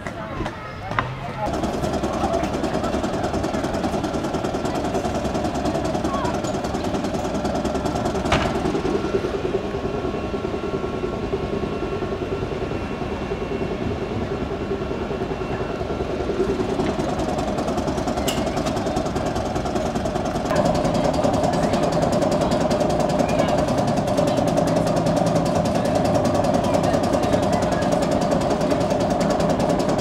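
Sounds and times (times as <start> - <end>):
streetcar machinery pulsing: 0.0 - 30.0.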